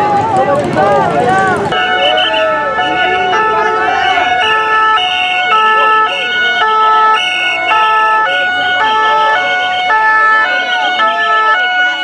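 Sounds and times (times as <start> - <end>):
two-tone emergency siren: 1.7 - 12.0.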